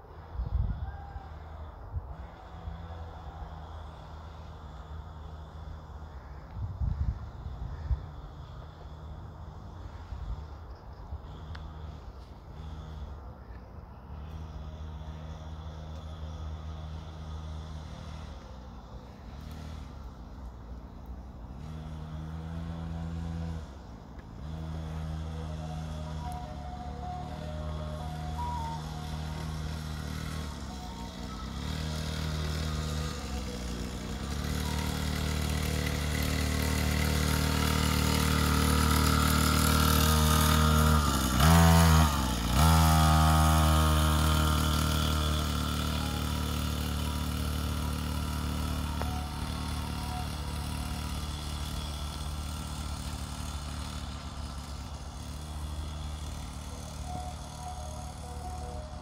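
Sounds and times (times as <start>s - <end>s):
dirt bike engine passing: 0.2s - 13.3s, 14.1s - 59.0s.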